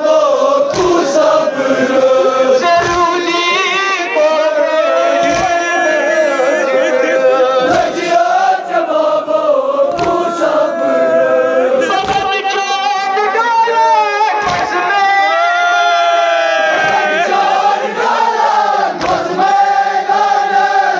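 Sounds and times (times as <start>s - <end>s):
men singing unaccompanied: 0.0s - 13.0s, 16.0s - 20.9s.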